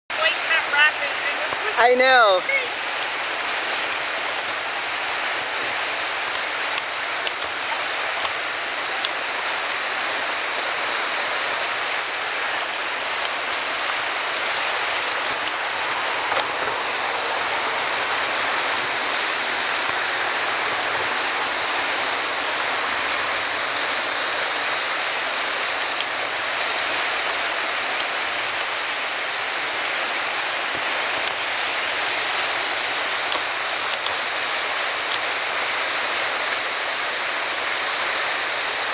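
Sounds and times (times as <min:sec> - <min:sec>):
river rushing: 0:00.1 - 0:38.9.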